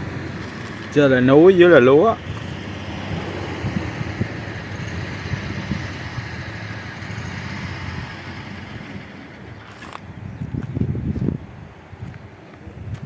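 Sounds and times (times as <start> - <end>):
motor vehicle engine rumble: 0.0 - 13.0.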